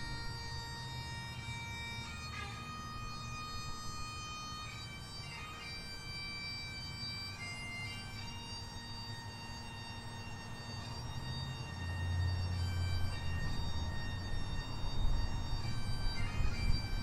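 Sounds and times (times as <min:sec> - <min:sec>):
bagpipes playing slow tune: 0:00.0 - 0:17.0.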